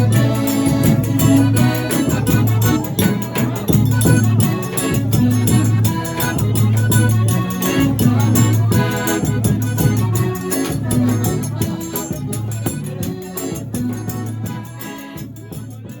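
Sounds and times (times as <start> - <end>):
accordion dance music: 0.0 - 16.0
rattling high percussion: 0.0 - 16.0
steady bass beat: 0.0 - 16.0.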